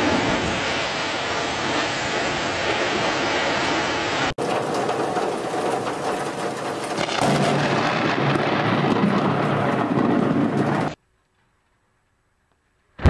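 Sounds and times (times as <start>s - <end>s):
thunder rumbling and crackling: 0.0s - 11.0s.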